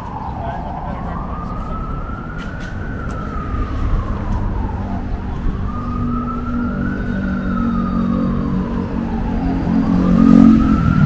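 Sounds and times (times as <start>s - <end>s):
emergency siren wailing: 0.0s - 11.0s
low steady drone: 0.0s - 11.0s
street traffic rumble: 0.0s - 11.0s.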